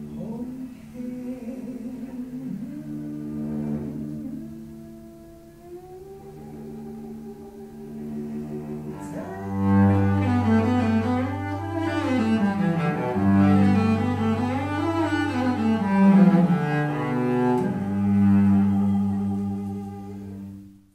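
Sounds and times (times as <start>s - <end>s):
cello low held note: 0.0s - 20.9s.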